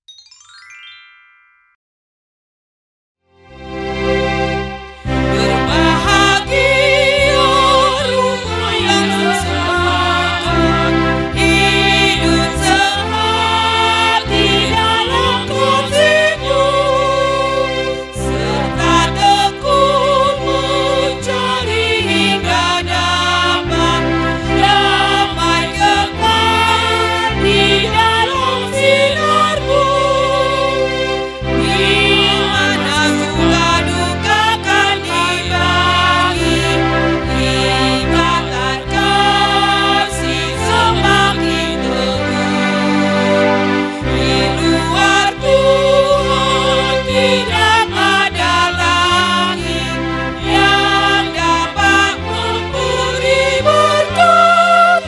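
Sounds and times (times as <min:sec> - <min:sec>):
instrumental accompaniment chords: 0:03.3 - 0:55.0
congregation singing a hymn: 0:05.1 - 0:55.0.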